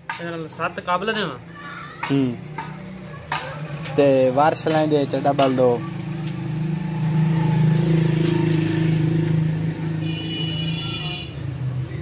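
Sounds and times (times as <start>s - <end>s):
engine droning: 2.3s - 12.0s.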